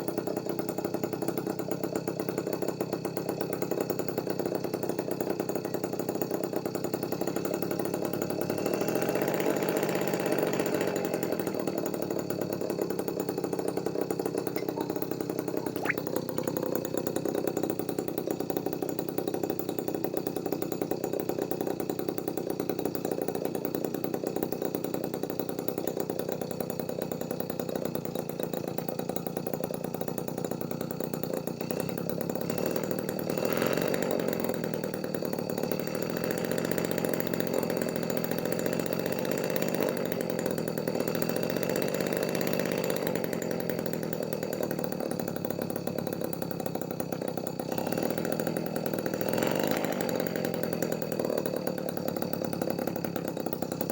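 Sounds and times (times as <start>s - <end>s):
small two-stroke engine idling: 0.0s - 53.9s.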